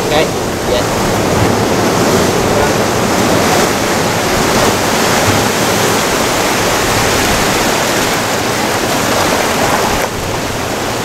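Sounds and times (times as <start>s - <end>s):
surf breaking over rocks: 0.0s - 11.0s.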